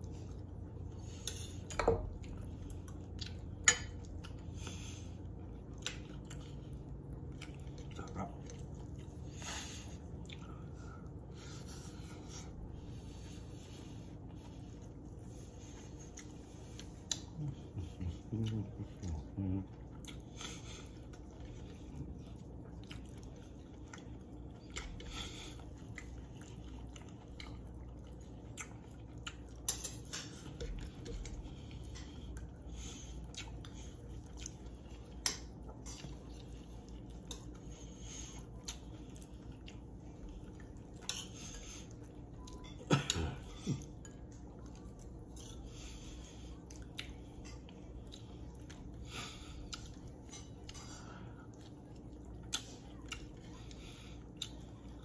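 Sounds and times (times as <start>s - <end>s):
chewing: 0.0s - 55.0s.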